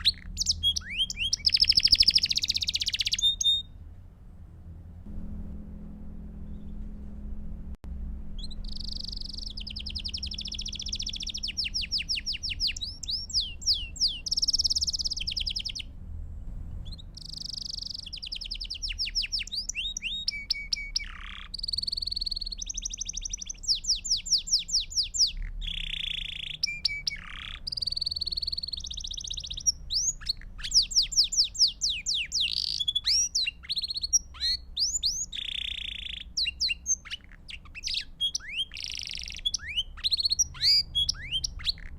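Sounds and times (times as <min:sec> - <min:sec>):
canary singing trills: 0:00.0 - 0:03.8, 0:08.4 - 0:15.9, 0:16.8 - 0:41.9.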